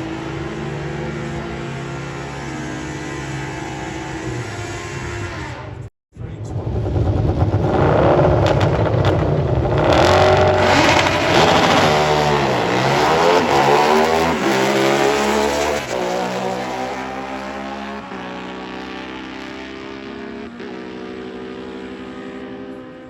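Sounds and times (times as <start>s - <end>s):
racing motorcycle engine: 0.0s - 23.0s.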